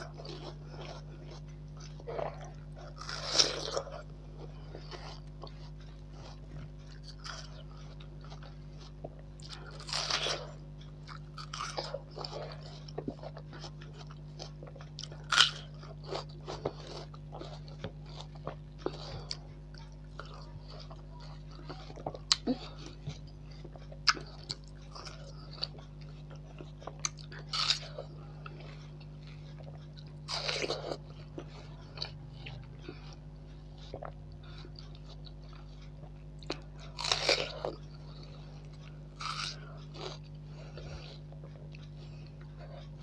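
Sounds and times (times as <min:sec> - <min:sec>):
biting and chewing watermelon: 0:00.0 - 0:43.0
steady low hum: 0:00.0 - 0:43.0.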